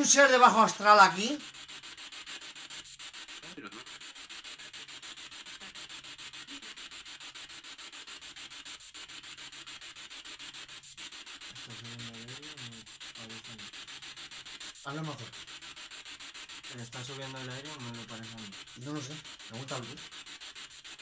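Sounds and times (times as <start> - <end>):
pulsing static hiss: 0.0 - 21.0.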